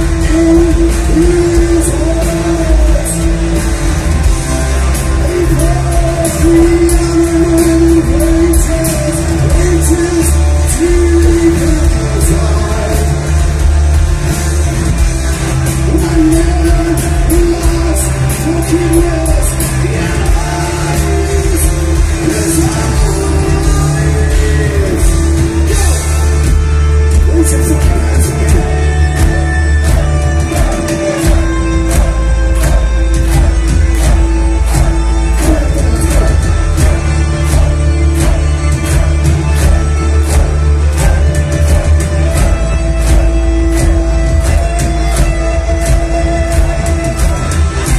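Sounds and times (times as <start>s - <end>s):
person singing: 0.0s - 14.3s, 15.6s - 47.9s
bass guitar: 0.0s - 47.9s
distorted electric guitars: 0.0s - 47.9s
drums: 0.0s - 47.9s.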